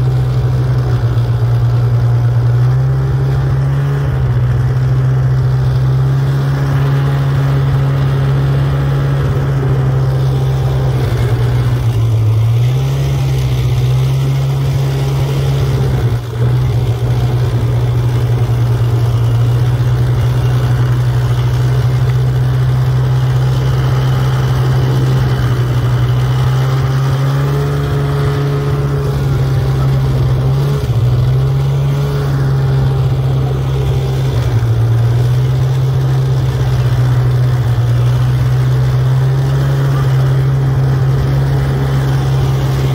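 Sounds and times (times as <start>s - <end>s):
snowmobile engine running: 0.0s - 42.9s.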